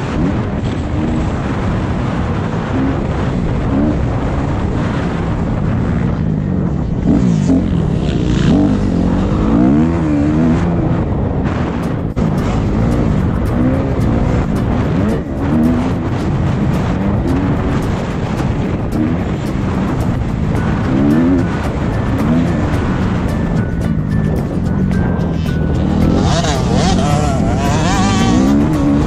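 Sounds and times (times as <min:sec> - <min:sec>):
motocross bike engine revving: 0:00.0 - 0:29.0
steady rushing noise: 0:00.0 - 0:29.0.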